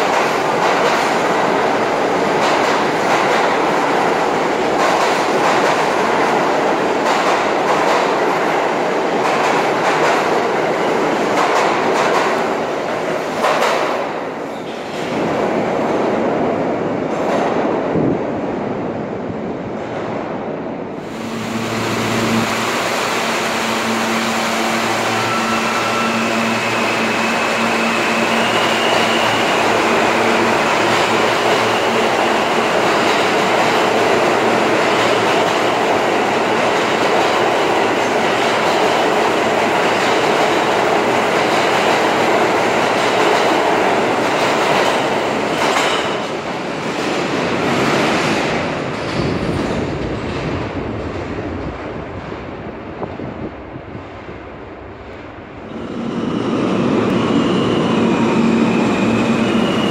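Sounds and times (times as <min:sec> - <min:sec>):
subway train hum and motor whine: 0:00.0 - 0:59.9.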